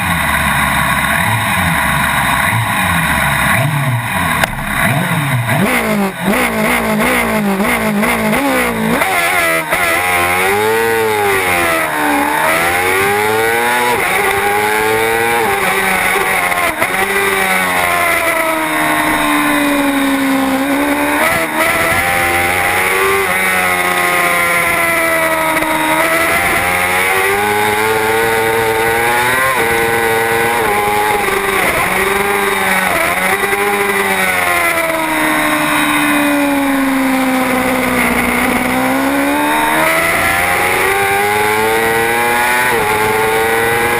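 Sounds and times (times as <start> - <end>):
racing motorcycle engine: 0.0 - 43.9.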